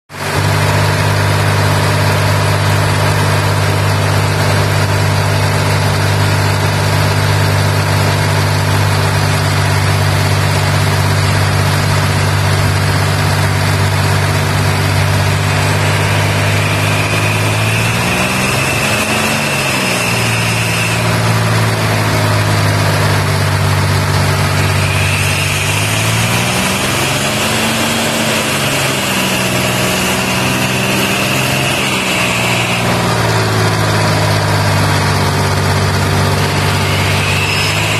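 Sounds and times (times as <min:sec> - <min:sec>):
air compressor engine running: 0:00.1 - 0:37.9
high whine: 0:00.3 - 0:37.9.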